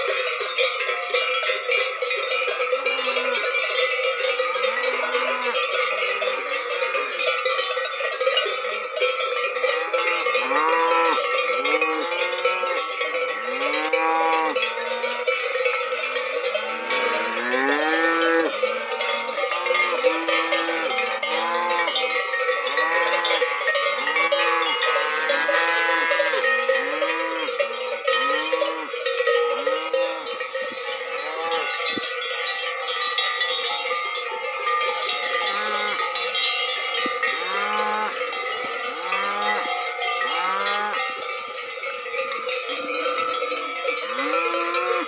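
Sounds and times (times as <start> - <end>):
cow bells clanking: 0.0 - 45.0.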